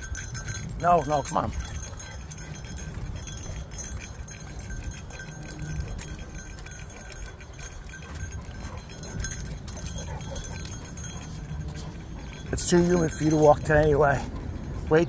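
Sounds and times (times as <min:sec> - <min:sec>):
dog tag and leash clip jingling: 0:00.0 - 0:15.0.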